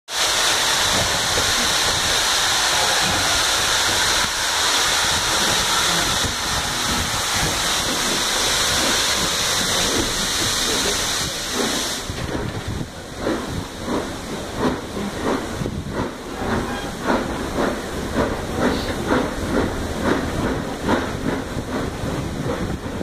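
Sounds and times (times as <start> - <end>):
low train rumble: 0.1 - 23.0
train wind and wheel noise: 0.1 - 23.0.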